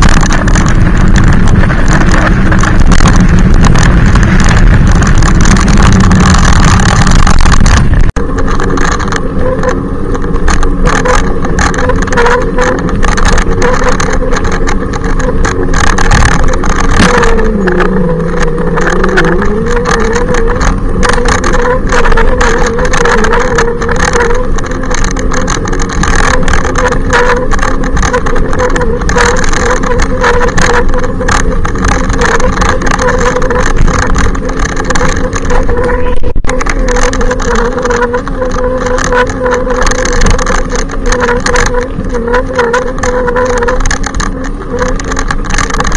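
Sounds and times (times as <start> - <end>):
electric bike motor whine: 0.0 - 45.9.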